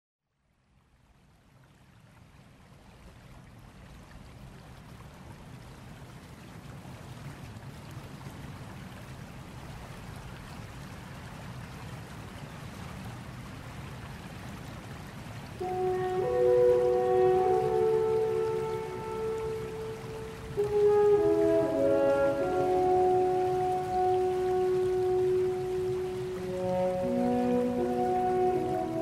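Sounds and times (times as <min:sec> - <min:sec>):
water rushing: 0:01.6 - 0:29.0.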